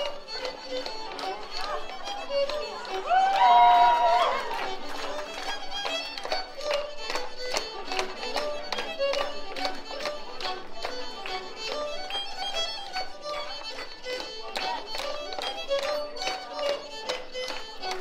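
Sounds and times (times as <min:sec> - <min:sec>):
rhythmic taps: 0:00.0 - 0:03.4, 0:04.5 - 0:18.0
fiddle playing dance tune: 0:00.0 - 0:18.0.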